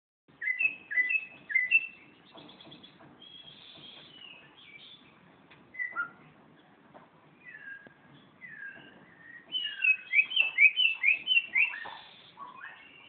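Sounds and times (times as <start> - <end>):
songbirds chirping: 0.3 - 13.0.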